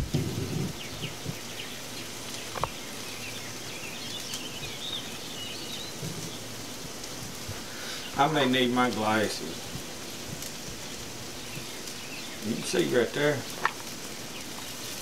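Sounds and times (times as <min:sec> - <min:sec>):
outdoor background hiss: 0:00.0 - 0:15.0
small bird chirping: 0:00.3 - 0:06.8, 0:09.4 - 0:15.0.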